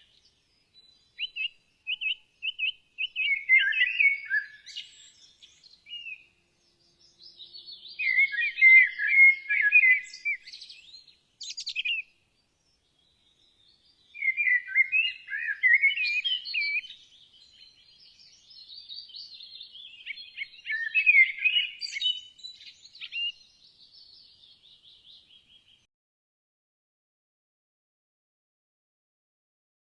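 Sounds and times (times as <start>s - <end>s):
songbirds chirping and twittering: 0.0s - 25.9s.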